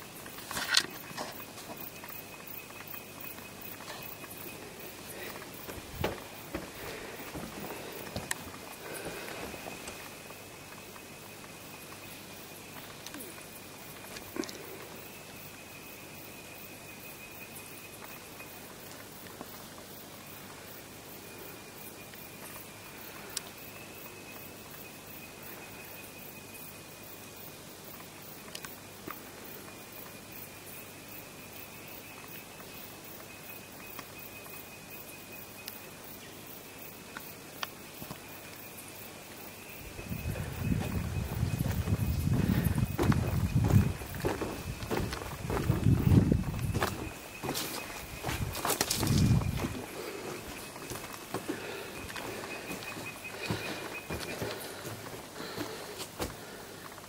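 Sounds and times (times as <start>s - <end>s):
high insect tone: 0.0s - 57.0s.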